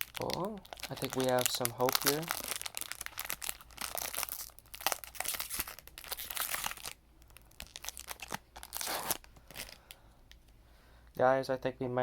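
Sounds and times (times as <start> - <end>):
foil pack crinkling: 0.0 - 10.0.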